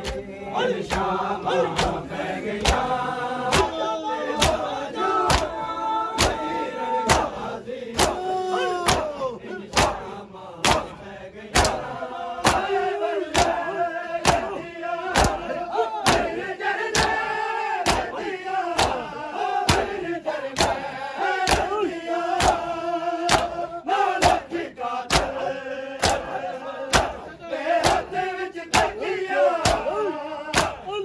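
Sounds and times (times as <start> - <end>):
men chanting a lament: 0.0 - 31.0
men slapping chests in unison: 0.0 - 31.0.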